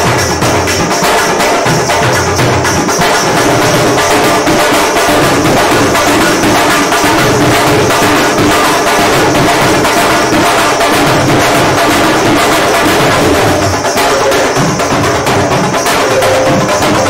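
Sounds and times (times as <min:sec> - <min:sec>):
dhol drumming: 0:00.0 - 0:17.0
loud music: 0:00.0 - 0:17.0.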